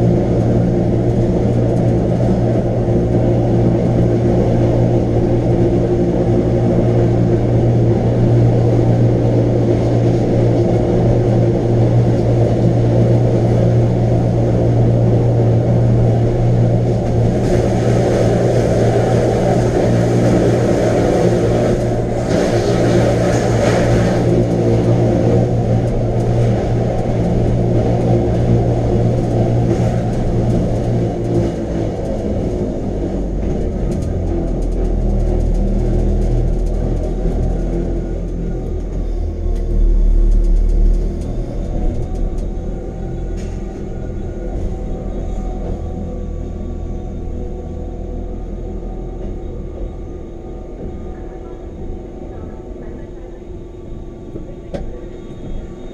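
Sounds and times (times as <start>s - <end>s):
electric train drive humming: 0.0s - 55.9s.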